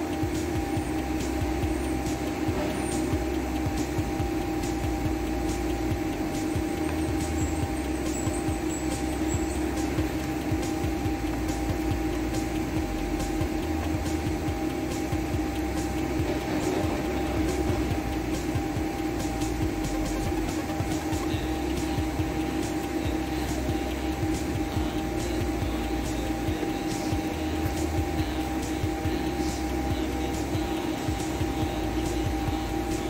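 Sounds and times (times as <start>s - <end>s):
faint ticking: 0.0s - 33.0s
fan humming: 0.0s - 33.0s
soft low thumps: 0.0s - 33.0s.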